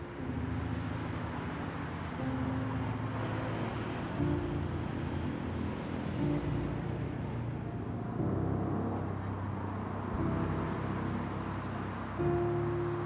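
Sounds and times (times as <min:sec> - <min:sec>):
passing cars rumble: 0:00.0 - 0:13.0.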